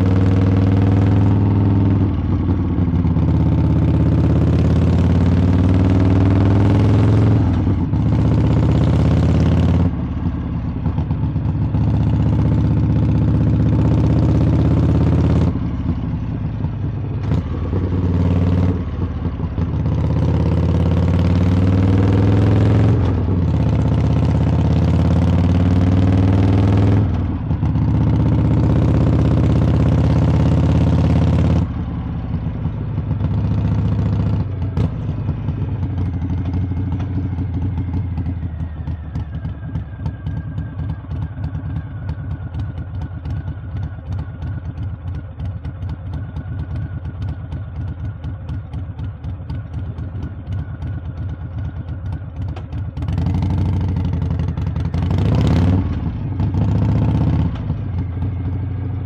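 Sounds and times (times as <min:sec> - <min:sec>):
motorcycle engine accelerating: 0:00.0 - 0:59.0
motorcycle engine idling: 0:00.0 - 0:59.0.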